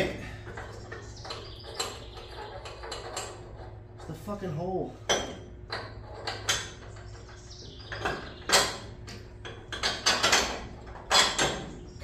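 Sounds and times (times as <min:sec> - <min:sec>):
steady low hum: 0:00.0 - 0:12.0
metal clinks knocks and scrapes: 0:00.2 - 0:04.2, 0:05.1 - 0:11.8.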